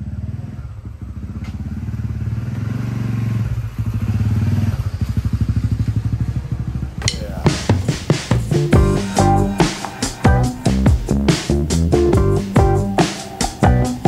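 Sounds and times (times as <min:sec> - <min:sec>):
motorcycle engine passing: 0:00.0 - 0:14.0.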